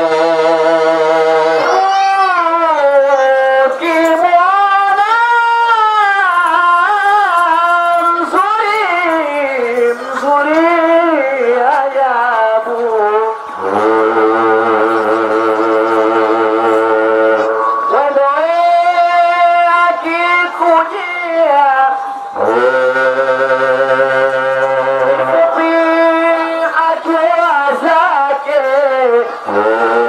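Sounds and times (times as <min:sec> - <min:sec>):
person singing ornamented melody: 0:00.0 - 0:30.0.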